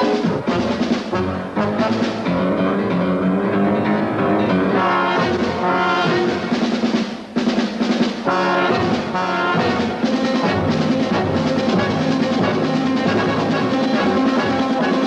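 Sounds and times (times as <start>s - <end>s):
brass-led orchestral theme music: 0.0s - 15.0s.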